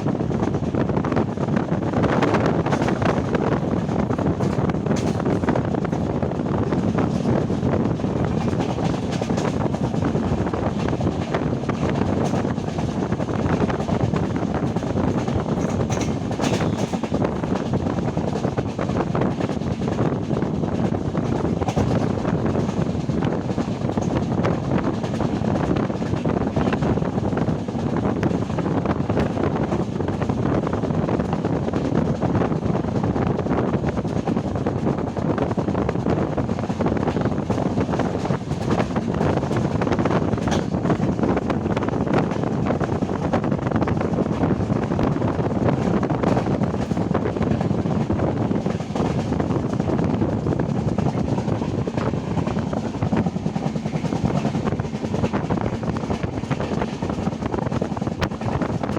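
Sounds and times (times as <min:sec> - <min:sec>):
passenger train running: 0:00.0 - 0:58.9
wind buffeting microphone: 0:00.0 - 0:58.9.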